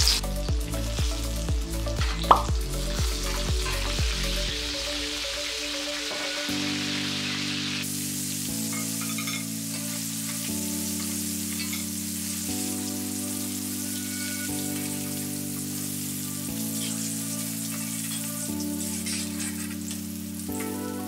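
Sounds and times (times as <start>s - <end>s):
background music with held chords: 0.0s - 21.0s
oil sizzling: 0.0s - 21.0s.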